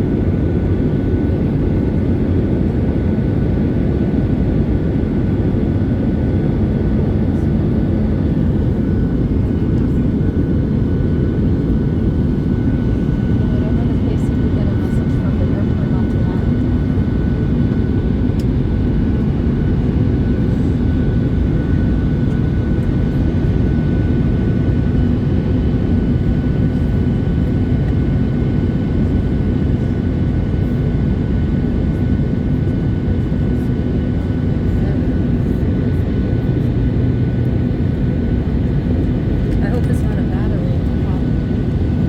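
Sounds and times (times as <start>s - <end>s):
airliner cabin roar: 0.0s - 42.0s.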